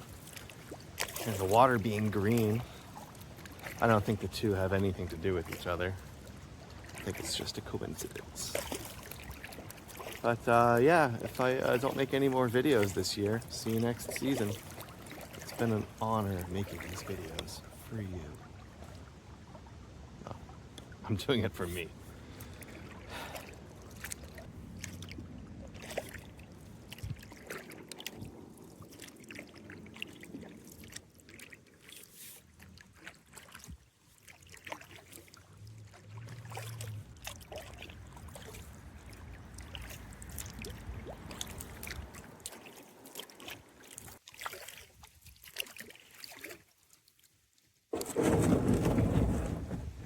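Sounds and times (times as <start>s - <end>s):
water dripping off paddle: 0.0s - 19.1s, 21.6s - 47.3s
paddle splashing water: 0.0s - 50.0s.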